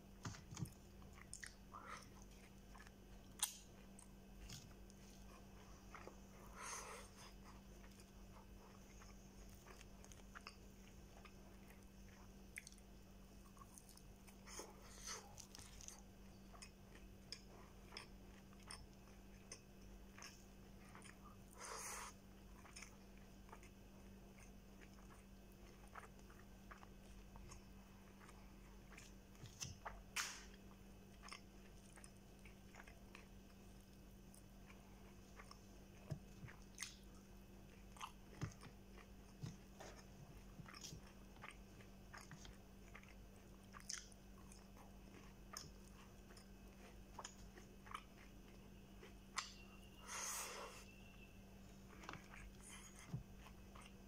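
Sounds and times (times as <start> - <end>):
steady low hum: 0.0 - 54.0
chewing and mouth clicks: 0.2 - 50.1, 51.9 - 54.0.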